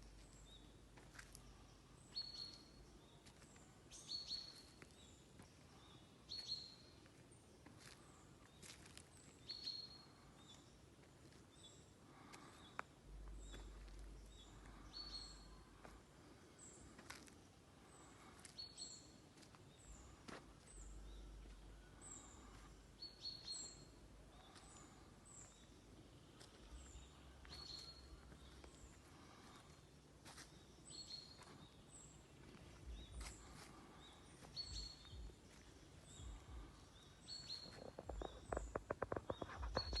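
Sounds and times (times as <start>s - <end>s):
bird chirping: 0.0s - 7.0s, 11.4s - 29.7s, 30.4s - 40.0s.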